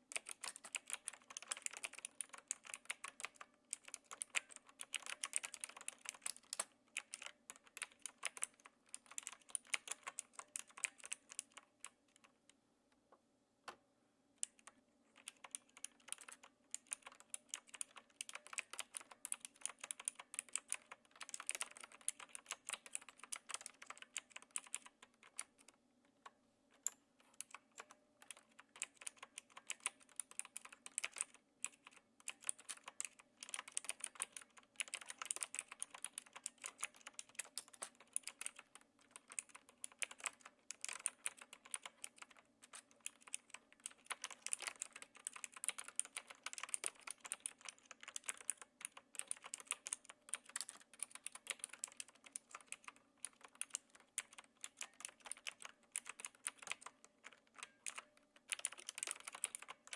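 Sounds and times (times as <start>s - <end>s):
mechanical keyboard key clicks: 0.1s - 12.3s, 14.4s - 59.9s.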